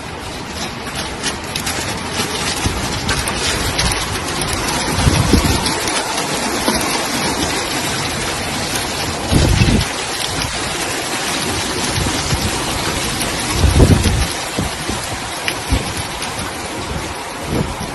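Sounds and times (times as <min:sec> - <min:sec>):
heavy rain and hail: 0:00.0 - 0:17.9.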